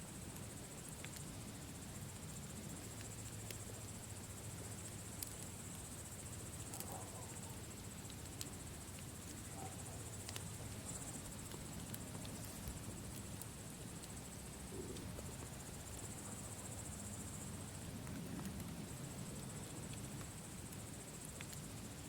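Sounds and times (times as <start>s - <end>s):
crickets trilling: 0.0s - 22.0s
campfire crackling and popping: 0.2s - 22.0s.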